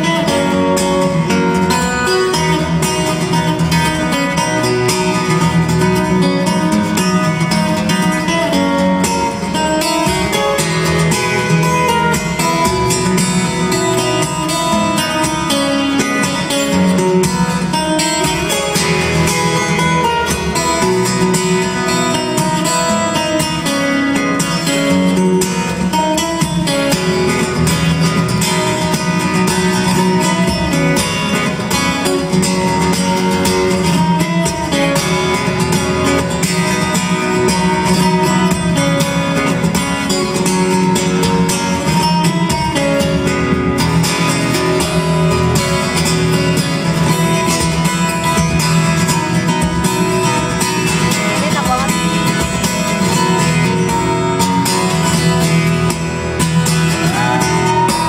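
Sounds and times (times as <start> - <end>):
fingerstyle acoustic guitar: 0.0 - 58.0.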